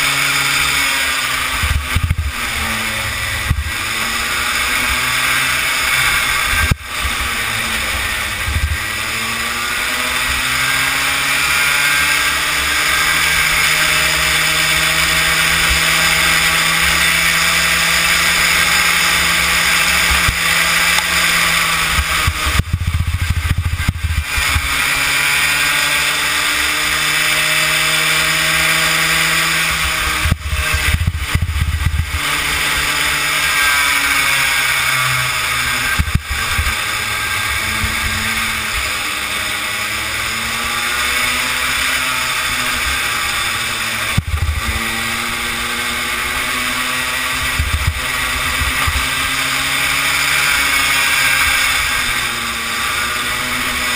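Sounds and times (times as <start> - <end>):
small kart engine racing: 0.0 - 53.9.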